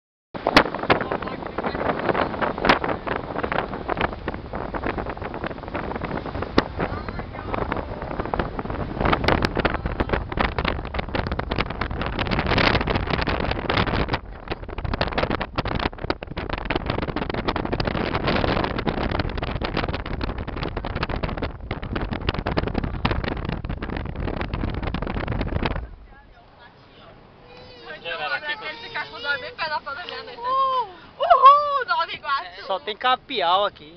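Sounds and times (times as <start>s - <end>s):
wind buffeting microphone: 0.4s - 33.9s.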